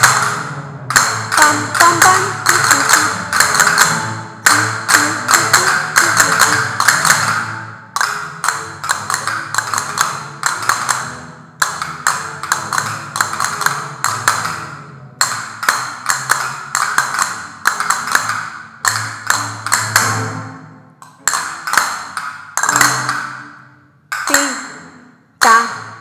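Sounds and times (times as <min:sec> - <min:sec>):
quiet music underneath: 0:00.0 - 0:26.0.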